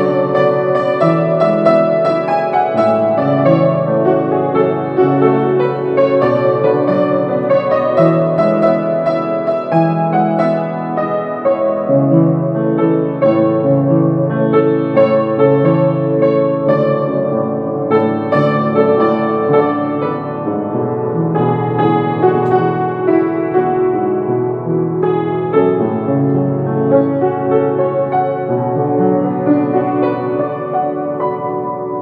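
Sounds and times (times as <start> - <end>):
slow piano notes: 0.0 - 32.0.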